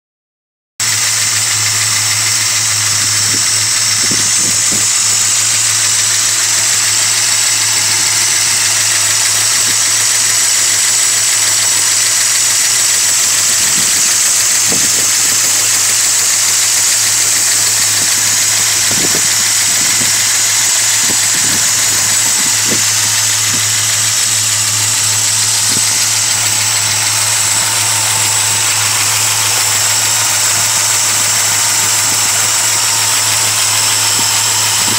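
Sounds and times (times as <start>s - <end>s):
car engine idling: 0.8s - 34.9s
high-pitched hiss: 0.8s - 34.9s.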